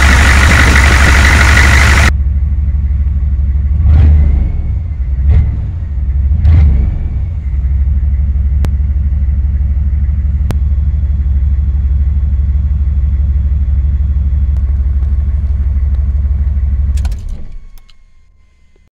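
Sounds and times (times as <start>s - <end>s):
diesel engine revving and idling: 0.0s - 17.8s.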